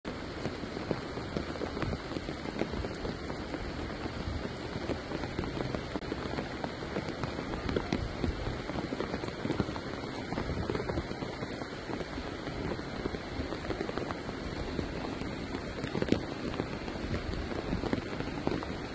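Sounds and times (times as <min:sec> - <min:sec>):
steady rain: 0:00.0 - 0:18.9
raindrop hits: 0:00.1 - 0:18.9.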